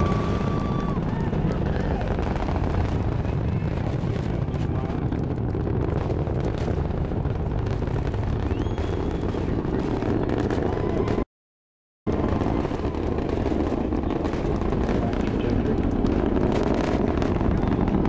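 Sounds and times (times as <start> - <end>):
deep rocket rumble: 0.0 - 11.3, 12.1 - 18.0.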